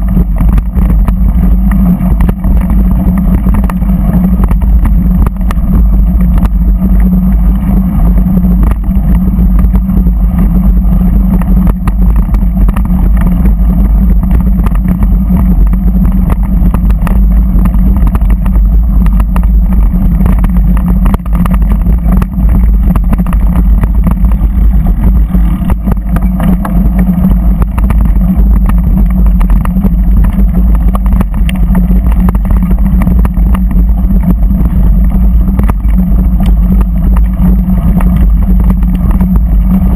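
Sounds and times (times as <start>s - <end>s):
gravel rattling jolts: 0.0s - 39.9s
low rumble: 0.0s - 39.9s
vehicle engine hum: 0.0s - 39.9s.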